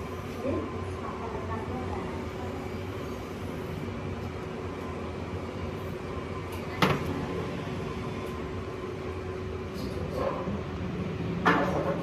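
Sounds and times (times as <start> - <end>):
factory machinery hum: 0.0 - 12.0.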